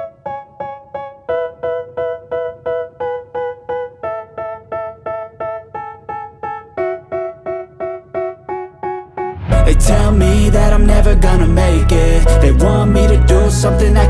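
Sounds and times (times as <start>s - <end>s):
keyboard playing repeating pattern: 0.0s - 14.0s.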